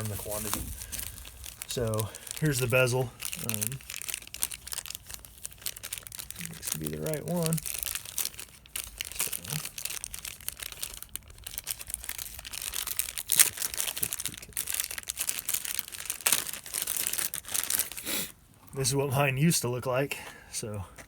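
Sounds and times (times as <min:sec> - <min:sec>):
packaging crinkling and rustling: 0:00.0 - 0:18.9.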